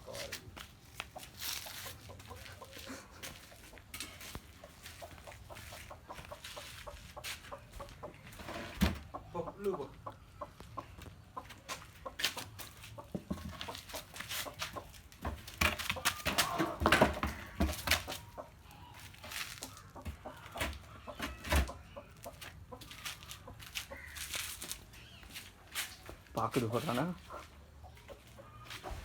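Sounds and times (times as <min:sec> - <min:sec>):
chicken clucking: 0:00.0 - 0:29.0.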